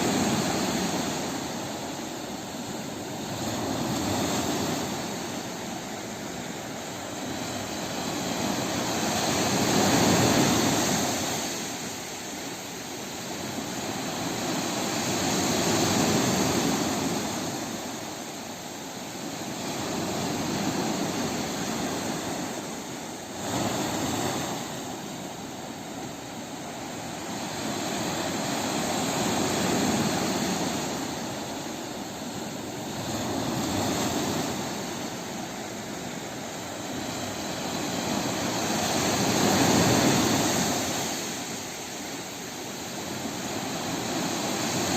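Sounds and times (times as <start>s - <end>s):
sea waves breaking: 0.0s - 44.9s.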